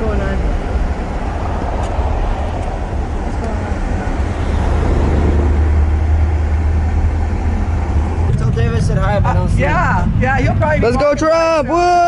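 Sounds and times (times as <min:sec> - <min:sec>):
road noise inside moving car: 0:00.0 - 0:12.0.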